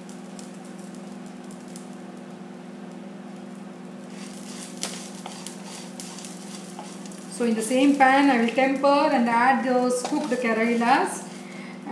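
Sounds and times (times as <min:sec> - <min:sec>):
dry chilies clicking and crackling: 0:00.0 - 0:11.9
low background hum: 0:00.0 - 0:11.9.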